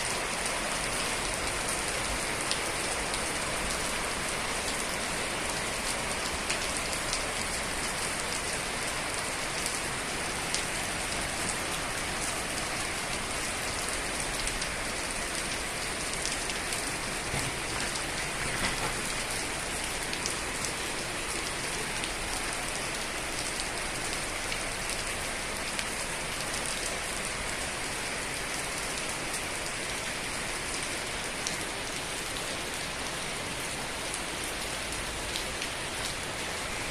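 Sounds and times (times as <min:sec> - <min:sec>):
heavy rain falling: 0:00.0 - 0:36.9
raindrops ticking on surfaces: 0:00.0 - 0:36.9.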